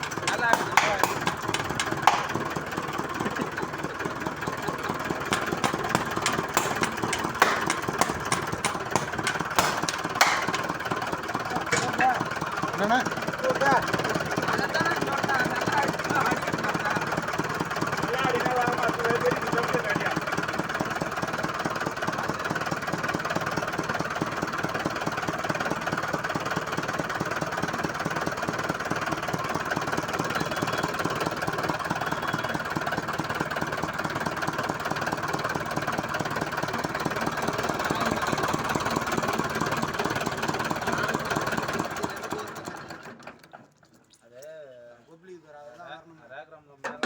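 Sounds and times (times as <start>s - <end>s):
tractor engine running: 0.0s - 43.5s.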